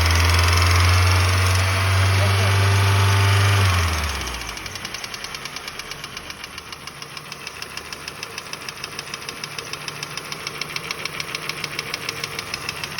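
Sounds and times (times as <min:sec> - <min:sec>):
engine running with knocking tick: 0:00.0 - 0:12.9.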